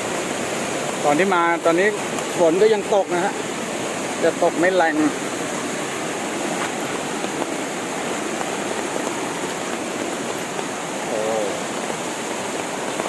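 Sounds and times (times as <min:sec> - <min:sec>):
water rushing down waterfall: 0:00.0 - 0:13.0.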